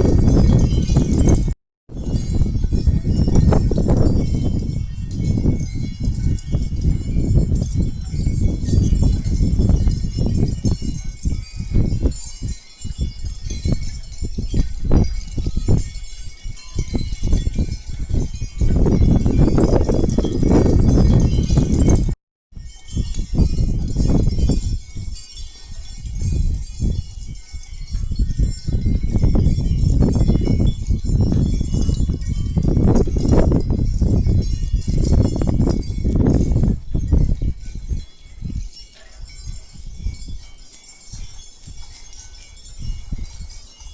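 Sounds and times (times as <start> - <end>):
wind chimes ringing: 0.0 - 43.9.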